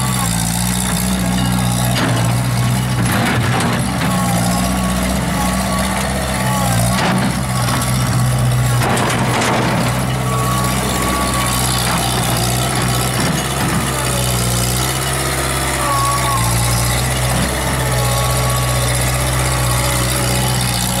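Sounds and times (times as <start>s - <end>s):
high whines: 0.0s - 21.0s
loader engine running: 0.0s - 21.0s.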